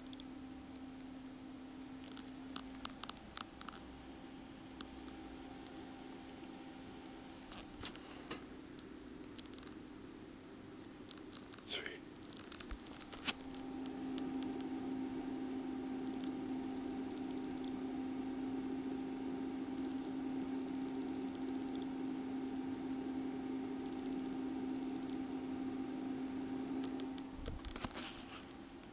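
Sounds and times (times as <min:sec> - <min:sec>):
electric fan humming: 0:00.0 - 0:28.9.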